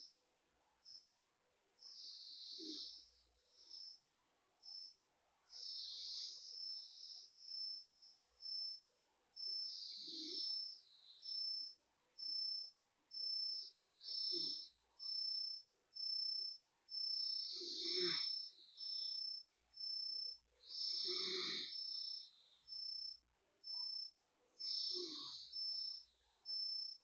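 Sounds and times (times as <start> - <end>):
insect high chirp: 0.8 - 1.1, 1.8 - 4.0, 4.6 - 27.0.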